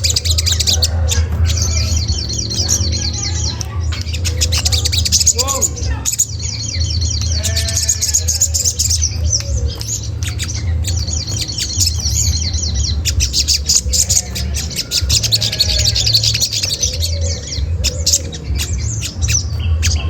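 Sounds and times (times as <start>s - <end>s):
steady low hum: 0.0s - 20.0s
sunbird chattering and chirping: 0.0s - 20.0s.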